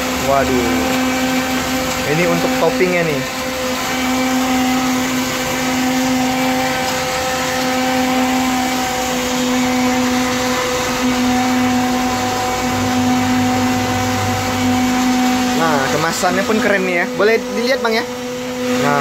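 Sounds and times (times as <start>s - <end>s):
blender motor whine: 0.0s - 19.0s.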